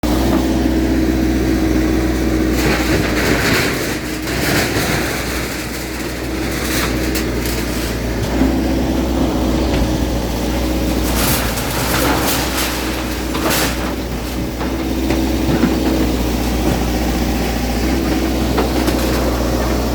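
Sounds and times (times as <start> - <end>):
bulldozer diesel engine running: 0.0 - 19.9
demolition crashing and rattling: 0.1 - 19.9.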